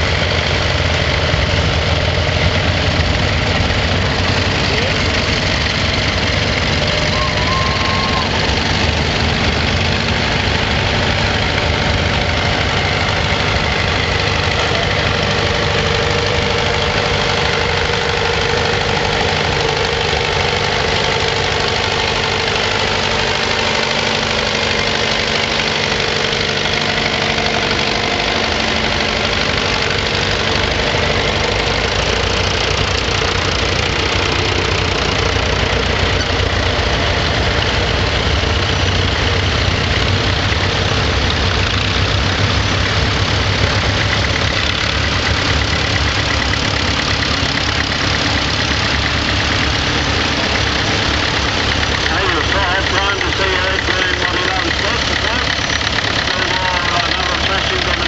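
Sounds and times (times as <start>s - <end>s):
tractor engines running: 0.0s - 58.0s.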